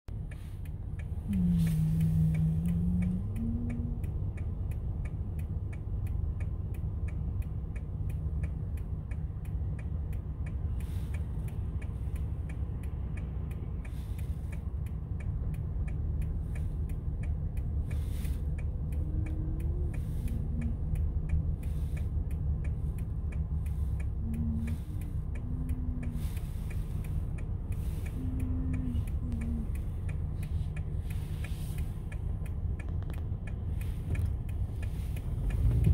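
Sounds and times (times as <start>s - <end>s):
car idling rumble: 0.1s - 35.9s
turn signal ticking: 0.1s - 35.9s.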